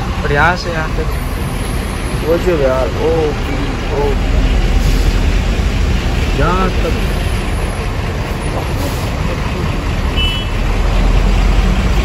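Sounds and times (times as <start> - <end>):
idling truck and bus engines: 0.0 - 12.0.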